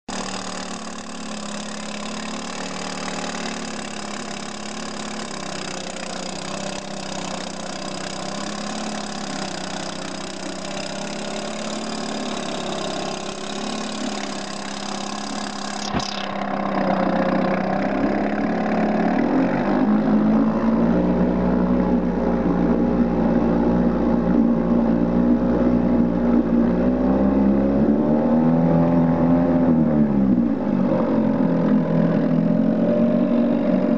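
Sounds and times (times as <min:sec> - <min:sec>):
outboard motor running: 0:00.1 - 0:33.9
propeller churning water: 0:00.1 - 0:33.9.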